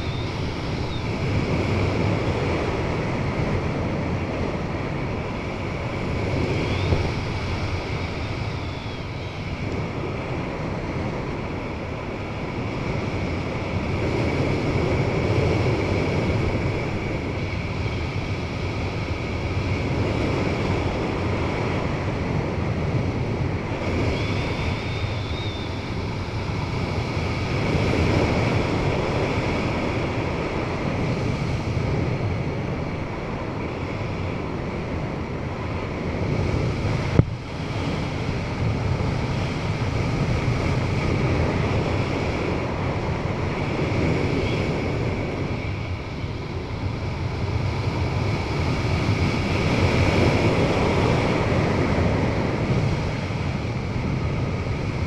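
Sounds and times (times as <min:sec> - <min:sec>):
wind on camera microphone: 0:00.0 - 0:55.0.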